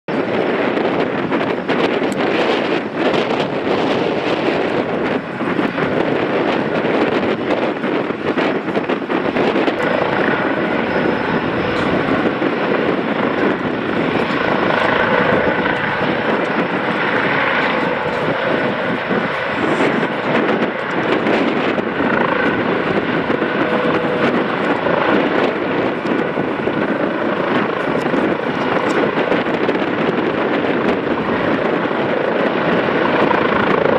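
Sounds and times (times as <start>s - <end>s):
helicopter turbines and rotors: 0.1s - 33.9s.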